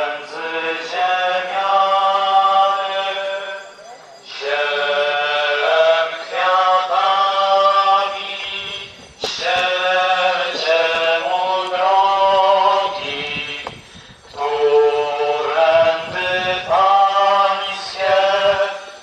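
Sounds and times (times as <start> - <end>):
man chanting a hymn: 0.0 - 3.7, 4.3 - 19.0.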